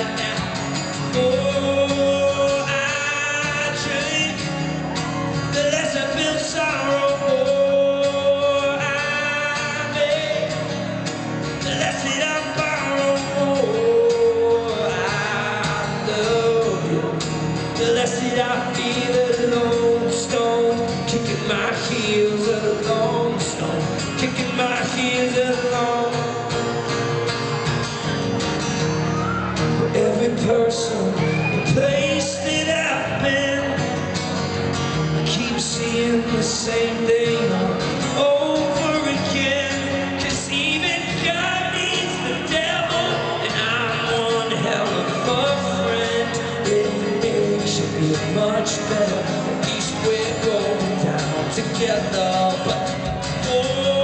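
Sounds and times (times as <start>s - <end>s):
man singing: 0.0s - 26.9s, 29.8s - 34.4s, 35.1s - 54.0s
acoustic guitar strumming: 0.0s - 54.0s.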